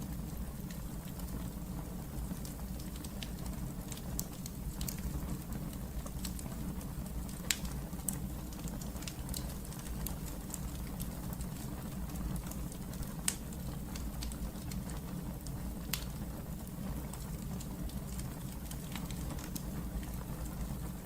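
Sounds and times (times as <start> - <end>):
fire crackles and pops: 0.0 - 21.0
wood fire burning: 0.0 - 21.0.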